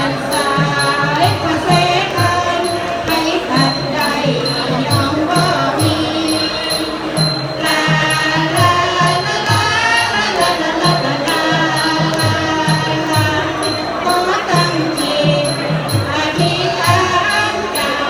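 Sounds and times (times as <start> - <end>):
drum beat: 0.0 - 18.0
small cymbal ticking: 0.0 - 18.0
traditional dance music melody: 0.0 - 18.0.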